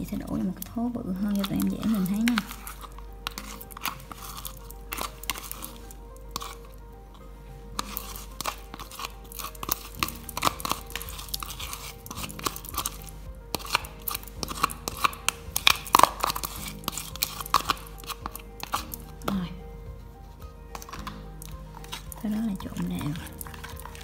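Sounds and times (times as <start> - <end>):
background music: 0.0 - 24.0
slime scraped with spatula: 1.2 - 6.8, 7.8 - 19.4, 20.7 - 24.0.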